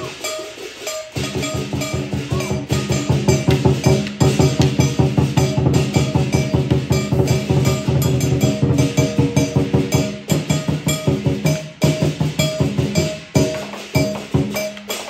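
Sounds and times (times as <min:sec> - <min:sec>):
cymbals ringing: 0:00.0 - 0:15.0
drum beaten rapidly: 0:00.0 - 0:15.0
gong ringing: 0:00.0 - 0:15.0.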